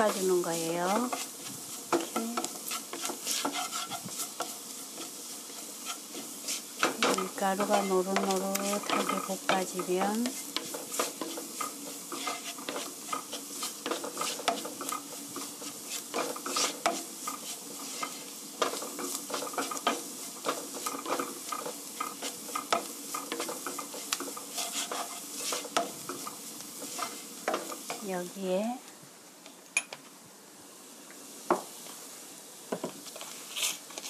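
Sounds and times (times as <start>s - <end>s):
wooden spatula scraping pan: 0.0s - 28.3s, 33.0s - 34.0s
frying sizzle: 0.0s - 34.0s.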